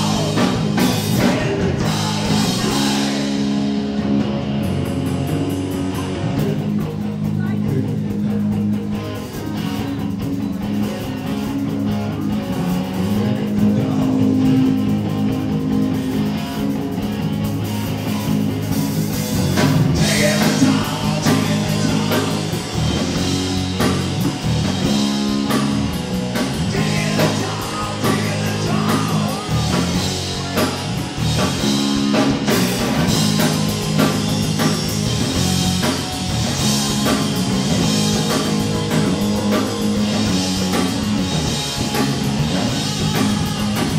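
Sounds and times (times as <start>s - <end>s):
punk rock band playing: 0.0s - 43.9s.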